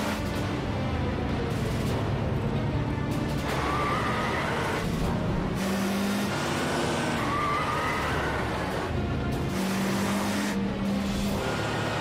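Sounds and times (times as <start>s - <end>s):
car engines running hard: 0.0s - 12.0s
tense action music: 0.0s - 12.0s.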